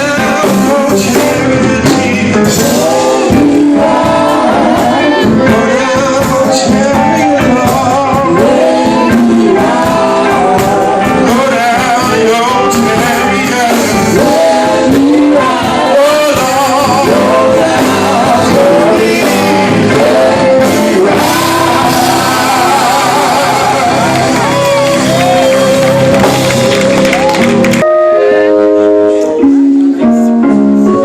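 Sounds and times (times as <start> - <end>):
group singing gospel: 0.0 - 27.3
instrumental backing: 0.0 - 31.0.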